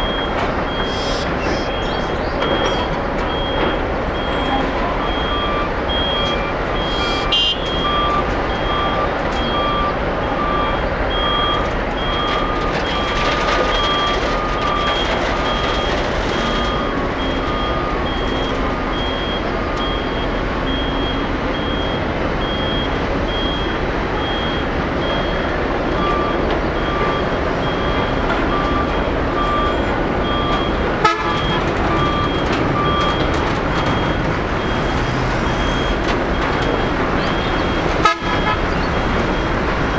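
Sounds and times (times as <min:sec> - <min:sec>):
engines rumbling: 0:00.0 - 0:39.9
reversing alarms beeping: 0:00.0 - 0:39.9.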